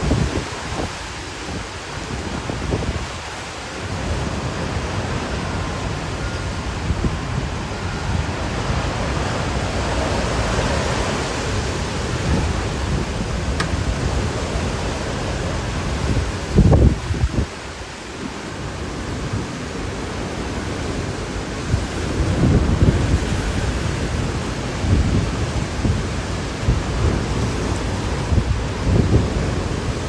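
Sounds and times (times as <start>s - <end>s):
hurricane wind and rain: 0.0s - 30.0s
wind buffeting microphone: 0.0s - 30.0s.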